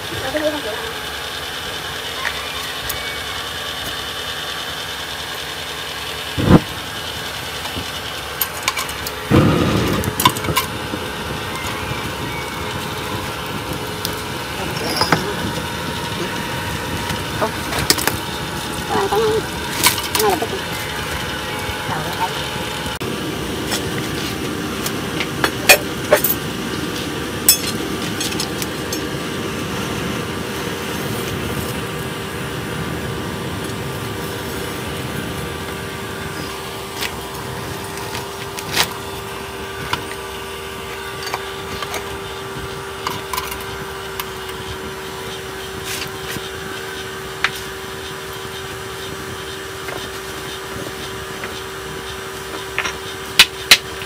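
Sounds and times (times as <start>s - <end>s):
burning coals popping: 2.2s - 54.0s
air blower hum and rush: 6.3s - 54.0s.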